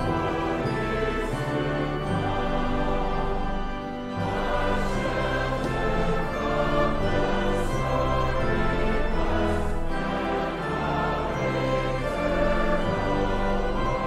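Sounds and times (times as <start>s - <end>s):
choir singing held chords: 0.0s - 14.0s
orchestra playing: 0.0s - 14.0s.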